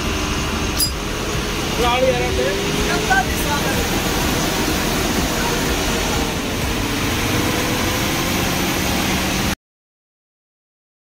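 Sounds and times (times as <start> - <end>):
bus engine drone: 0.0 - 9.6
road noise: 0.0 - 9.6.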